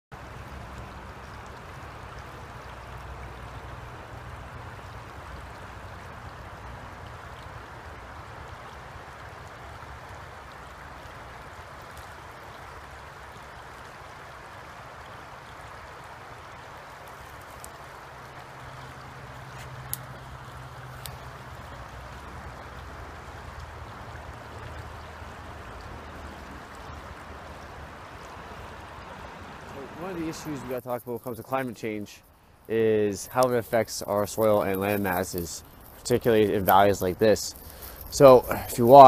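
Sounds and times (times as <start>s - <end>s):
creek water flowing over rocks: 0.1s - 39.0s.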